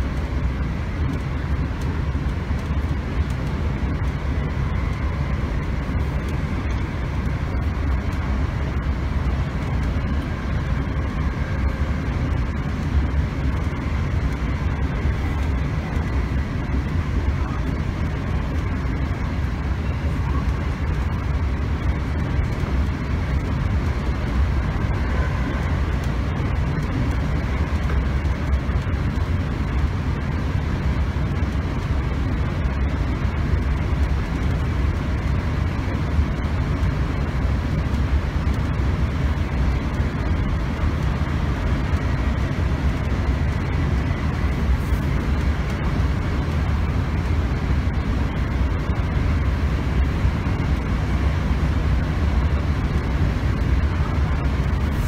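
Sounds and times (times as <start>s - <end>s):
faint steady tones: 0.0s - 55.0s
train running rumble: 0.0s - 55.0s.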